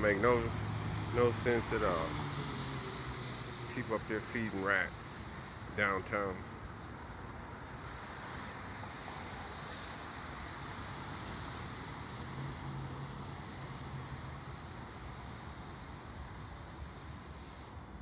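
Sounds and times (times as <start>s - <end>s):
distant traffic: 0.0s - 18.0s.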